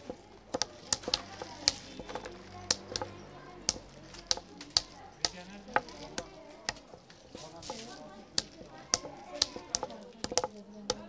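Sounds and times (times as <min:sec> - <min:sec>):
hammers cracking pistachio shells: 0:00.0 - 0:11.0.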